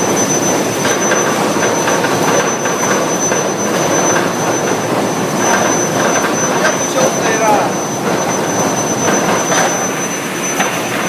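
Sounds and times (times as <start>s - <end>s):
high-pitched whine: 0.0s - 11.0s
industrial furnace line running: 0.0s - 11.0s.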